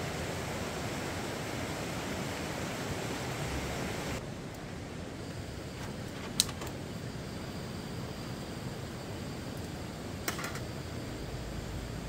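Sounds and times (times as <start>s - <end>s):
rushing outdoor noise: 0.0s - 12.0s.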